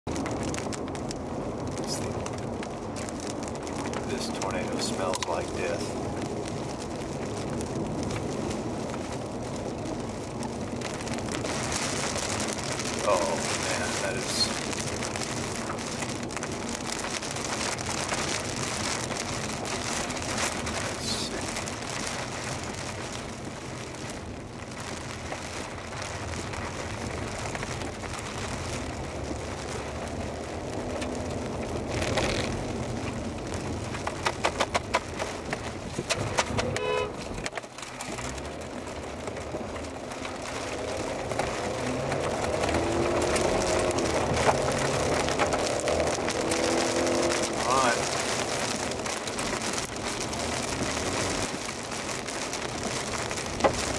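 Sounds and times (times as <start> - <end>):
vehicle driving through wind and rain: 0.0 - 53.9.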